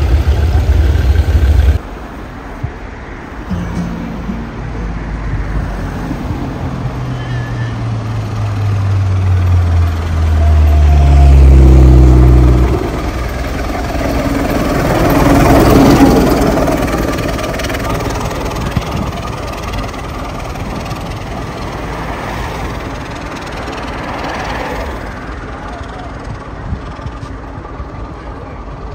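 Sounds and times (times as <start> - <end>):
motor vehicle engine passing: 0.0 - 1.8, 3.5 - 28.6
steam traction engine rumbling: 0.0 - 2.4, 3.4 - 28.9.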